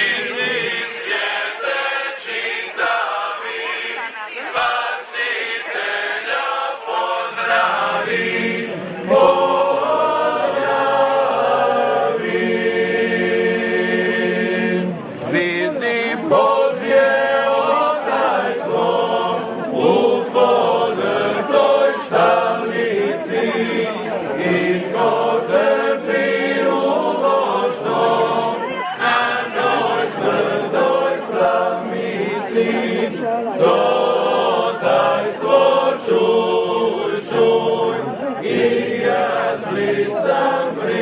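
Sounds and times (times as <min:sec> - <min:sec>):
choir singing a cappella: 0:00.0 - 0:41.0.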